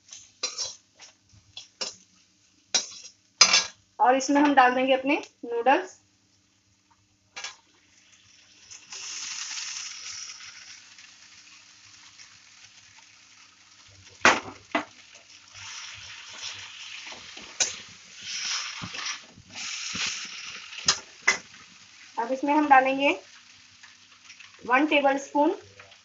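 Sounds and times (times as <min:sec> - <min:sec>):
noodles sizzling in a hot pan: 0:00.0 - 0:05.5, 0:06.1 - 0:26.0.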